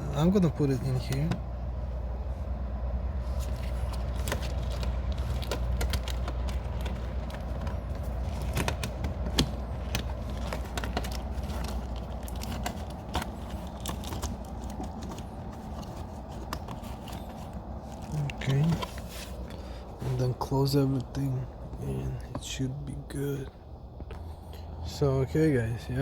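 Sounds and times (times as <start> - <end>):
wires and plastic rustling: 0.0 - 24.2
steady low hum: 0.0 - 26.0.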